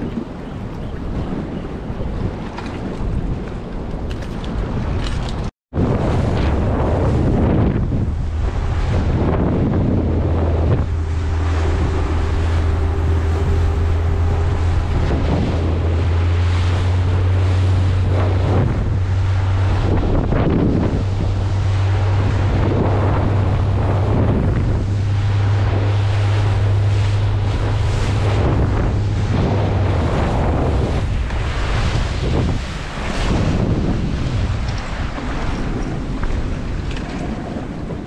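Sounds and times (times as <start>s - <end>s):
boat engine hum: 0.0s - 38.0s
wind buffeting microphone: 0.0s - 38.0s.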